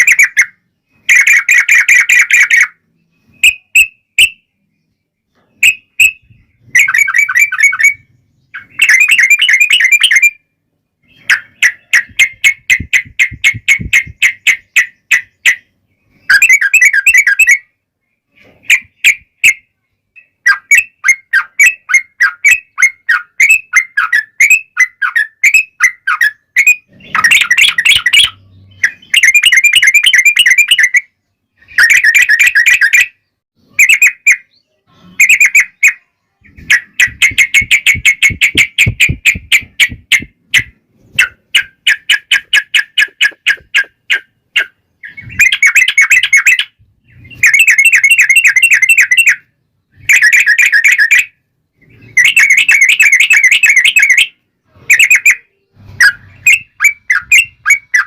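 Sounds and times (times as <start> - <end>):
bulbul chattering trilled song: 0.0 - 4.7, 5.3 - 58.0.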